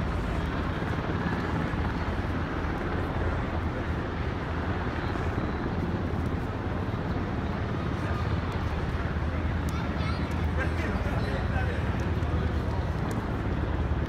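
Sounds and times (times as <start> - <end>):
crowd voices: 0.0 - 14.0
helicopter rotor drone: 0.0 - 14.0.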